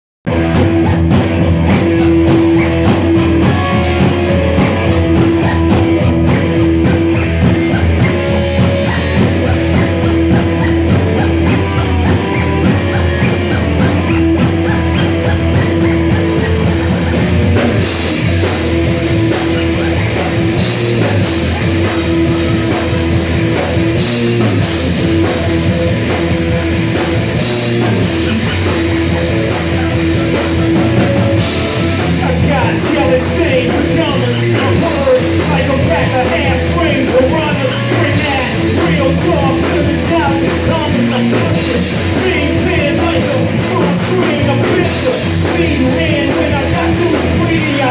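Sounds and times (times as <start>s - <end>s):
distorted electric guitars: 0.2s - 47.9s
drum kit: 0.2s - 47.9s
electric bass: 0.2s - 47.9s
keyboards: 0.3s - 47.9s.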